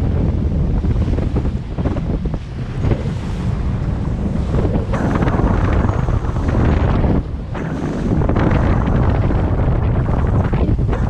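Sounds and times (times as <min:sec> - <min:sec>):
waves washing around hull: 0:00.0 - 0:11.0
wind rumble on microphone: 0:00.0 - 0:11.0.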